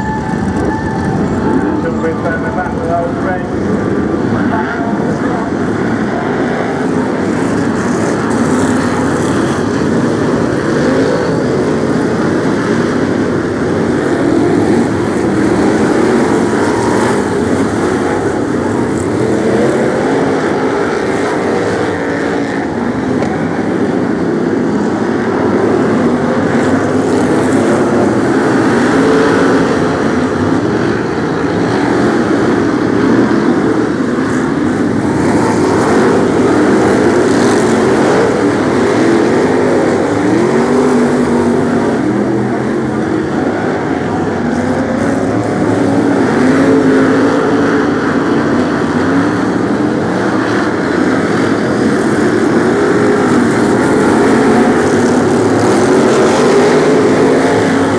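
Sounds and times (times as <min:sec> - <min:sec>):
stock car engines racing: 0:00.0 - 0:57.9.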